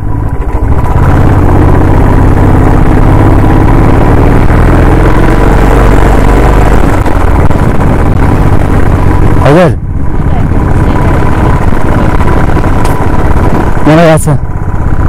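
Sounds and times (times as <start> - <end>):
motorcycle engine running: 0.0 - 15.0
road noise: 0.0 - 15.0.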